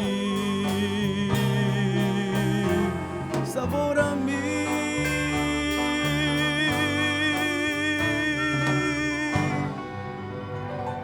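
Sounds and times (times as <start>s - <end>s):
person singing with vibrato: 0.0s - 10.1s
band playing: 0.0s - 11.0s.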